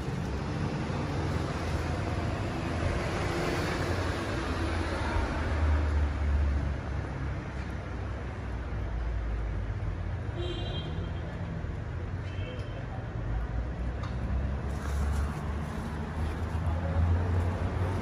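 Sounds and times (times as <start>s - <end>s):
road vehicles rumbling: 0.0s - 18.0s.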